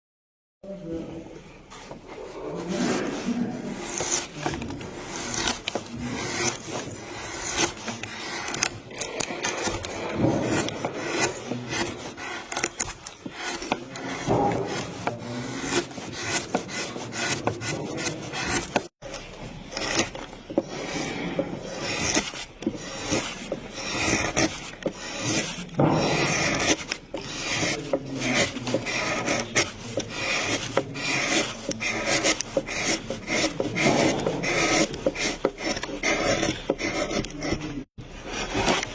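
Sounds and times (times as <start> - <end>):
hand tool rasping wood: 1.7 - 38.9.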